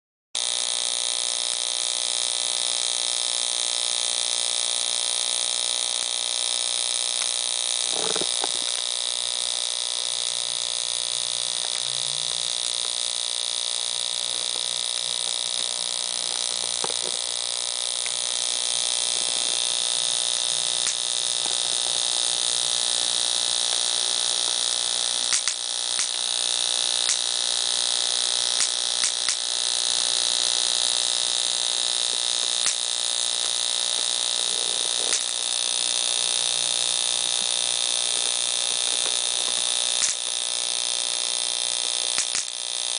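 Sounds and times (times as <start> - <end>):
high-pitched buzz of sparks: 0.4 - 42.9.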